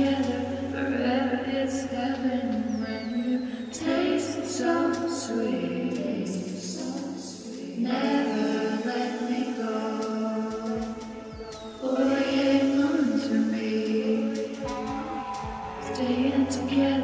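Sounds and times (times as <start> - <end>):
song with sung vocals: 0.0 - 17.0.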